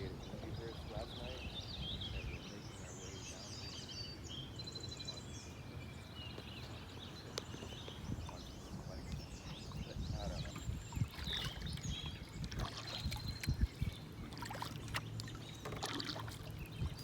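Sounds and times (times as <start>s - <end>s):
songbirds singing and calling: 0.0s - 17.0s.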